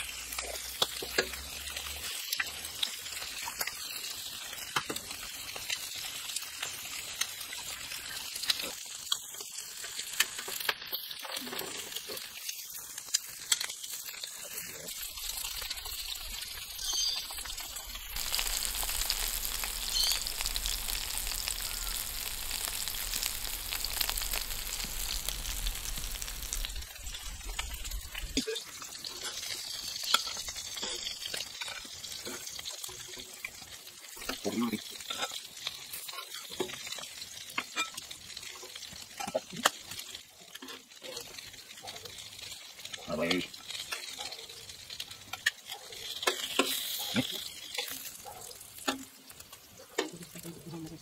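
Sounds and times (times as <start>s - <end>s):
food sizzling in a pan: 0.0s - 51.0s.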